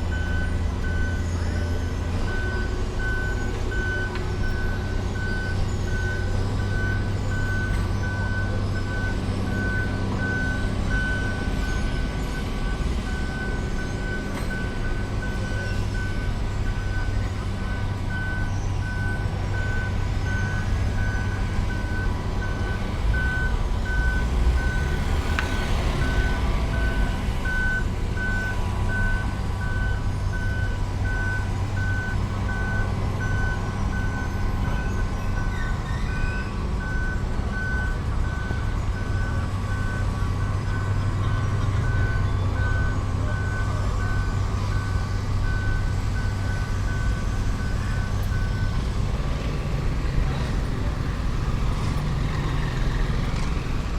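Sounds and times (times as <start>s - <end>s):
diesel engine hum: 0.0s - 53.9s
reversing alarm beeping: 0.1s - 53.9s.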